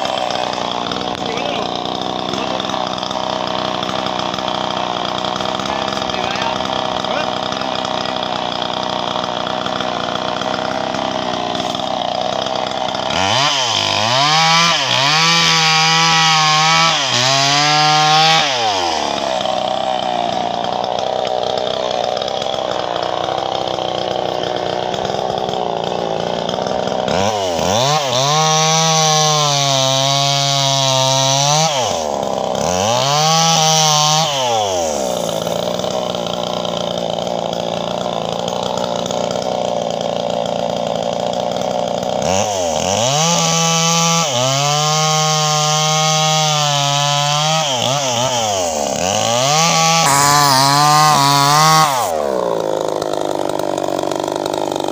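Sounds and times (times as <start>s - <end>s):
chainsaw idling: 0.0s - 54.9s
chainsaw revving: 0.0s - 54.9s.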